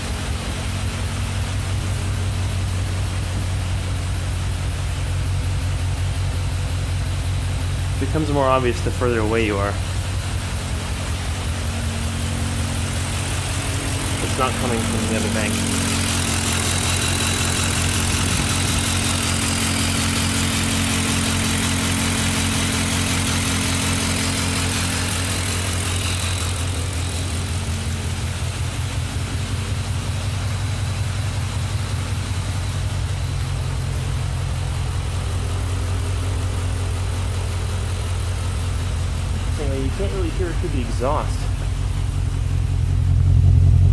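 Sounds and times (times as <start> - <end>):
car engine idling with misfire: 0.0 - 43.9
valvetrain ticking: 1.6 - 43.9.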